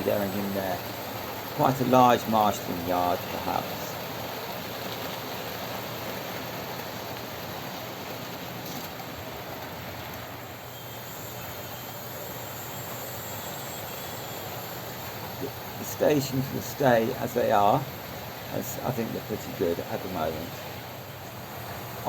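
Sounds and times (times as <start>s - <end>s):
model train wheels rolling on track: 0.0s - 22.0s.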